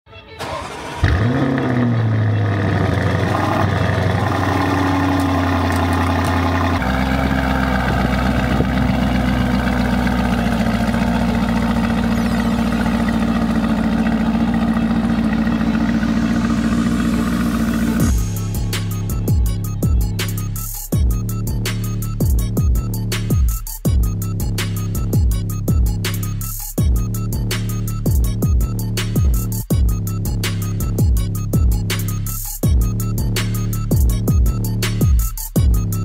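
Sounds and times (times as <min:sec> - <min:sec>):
car engine starting and idling: 0:00.3 - 0:36.0.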